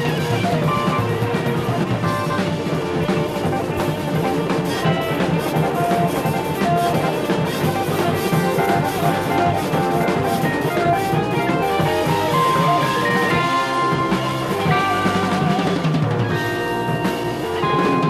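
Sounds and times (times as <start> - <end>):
busy drum kit: 0.0 - 18.0
electric bass: 0.0 - 18.0
electric guitar: 0.0 - 18.0
keyboards: 0.0 - 18.0.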